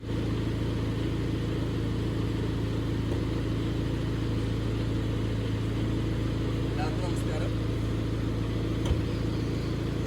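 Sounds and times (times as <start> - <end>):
car engine humming steadily: 0.0 - 10.0.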